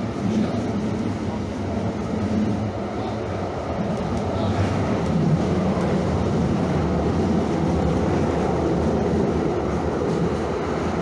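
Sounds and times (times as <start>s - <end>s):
light-rail train rumbling: 0.0s - 11.0s.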